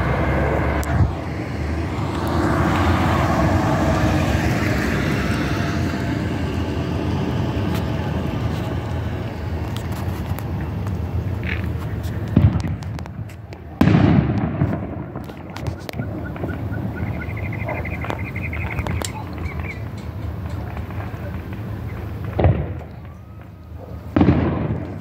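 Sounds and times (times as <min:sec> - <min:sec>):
road and engine noise inside car: 0:00.0 - 0:13.9, 0:15.3 - 0:22.4.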